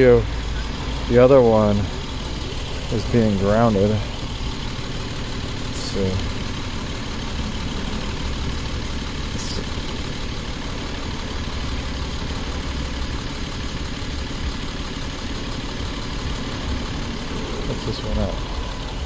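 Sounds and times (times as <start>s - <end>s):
car engine idling with misfire: 0.0s - 19.0s.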